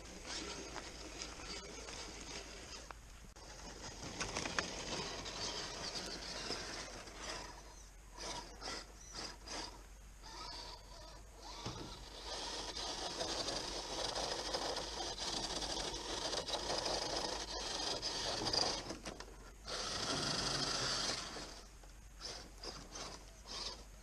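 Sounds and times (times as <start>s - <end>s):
rc car motor whirring: 0.2s - 24.0s.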